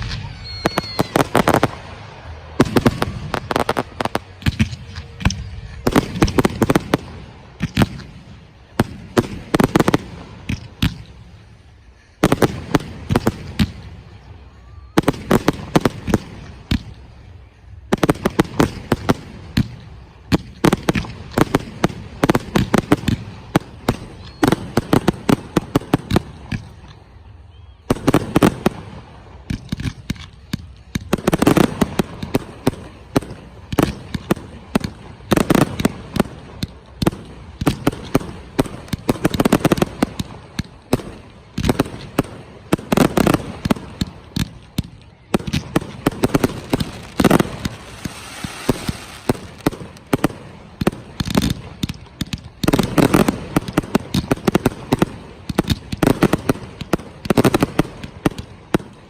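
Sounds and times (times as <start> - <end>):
fireworks bursting with sharp bangs: 0.0 - 59.0
fireworks crackling: 0.0 - 59.0.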